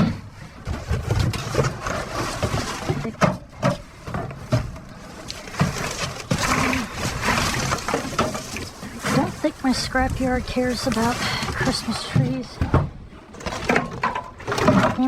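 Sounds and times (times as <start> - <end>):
items knocking and clattering: 0.0 - 15.0
steady rustling: 0.0 - 15.0.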